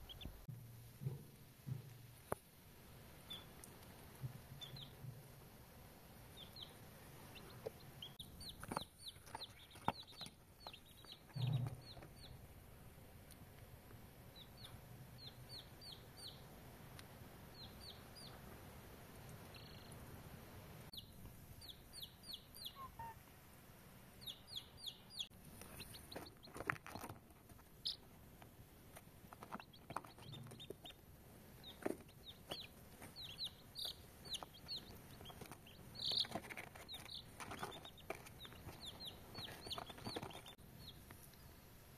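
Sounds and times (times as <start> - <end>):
baby chicks peeping: 0.0 - 2.4, 3.1 - 5.4, 6.0 - 20.2, 20.9 - 23.3, 24.2 - 41.7.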